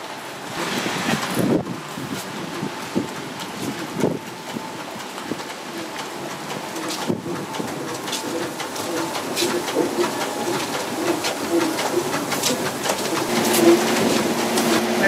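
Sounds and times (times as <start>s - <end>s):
electric feeding cart running: 0.1s - 15.0s
steady hum: 0.3s - 15.0s.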